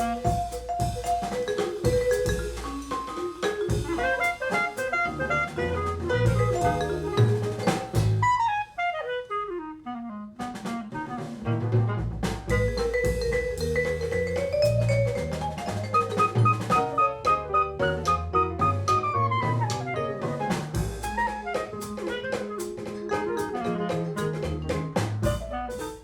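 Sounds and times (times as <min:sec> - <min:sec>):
jazz over loudspeakers: 0:00.0 - 0:01.7, 0:02.6 - 0:13.2, 0:14.7 - 0:26.0.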